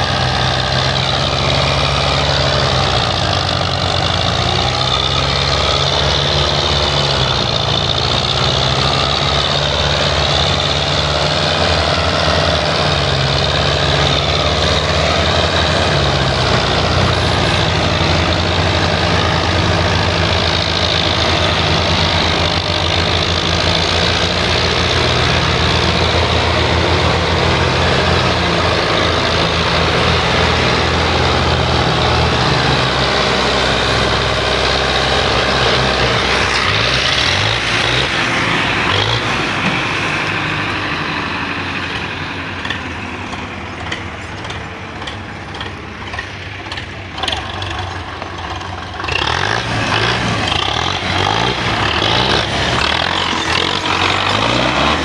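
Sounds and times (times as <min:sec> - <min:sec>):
tractor diesel engines running hard: 0:00.0 - 0:55.0.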